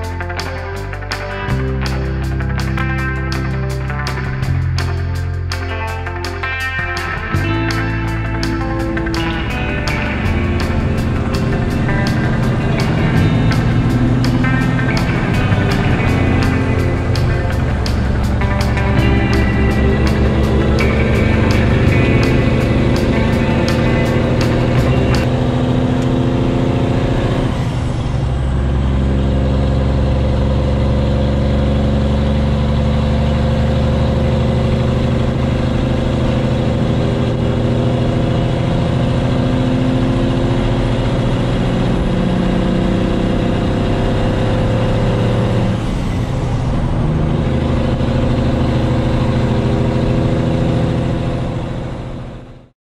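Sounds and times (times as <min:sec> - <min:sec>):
truck diesel engine running: 0:00.0 - 0:52.6.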